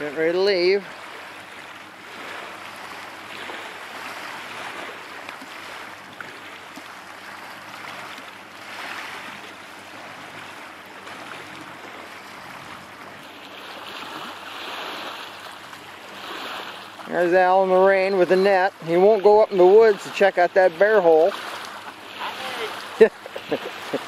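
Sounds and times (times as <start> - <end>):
water rushing along shore: 0.0 - 24.0
wind: 0.0 - 24.0.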